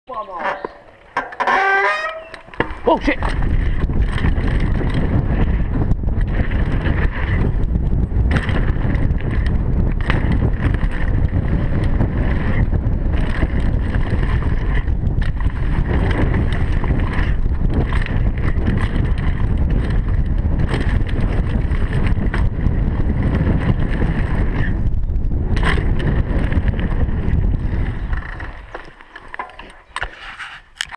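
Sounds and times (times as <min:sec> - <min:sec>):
bike knocking and rattling: 0:00.1 - 0:30.9
wind rush on microphone: 0:02.7 - 0:29.0.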